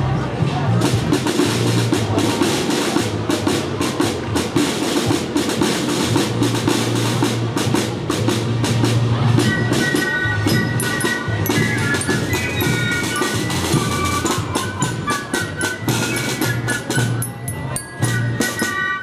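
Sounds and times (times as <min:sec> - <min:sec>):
drums beating fast rhythm: 0:00.0 - 0:19.0
parade band playing: 0:00.0 - 0:19.0.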